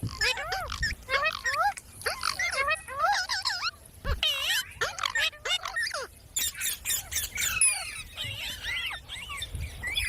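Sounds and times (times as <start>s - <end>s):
parrots chattering and squawking: 0.0s - 10.0s.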